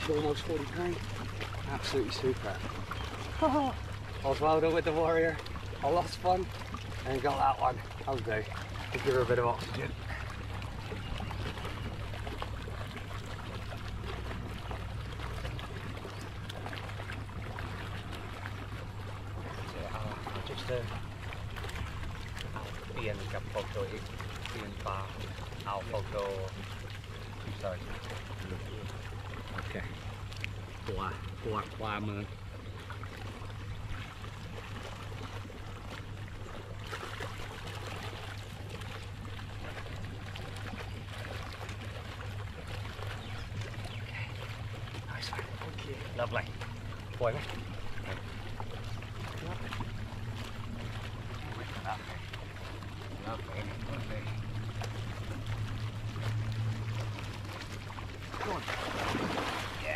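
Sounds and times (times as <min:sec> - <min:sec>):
steady low hum: 0:00.0 - 0:59.9
water churning and splashing: 0:00.0 - 0:59.9.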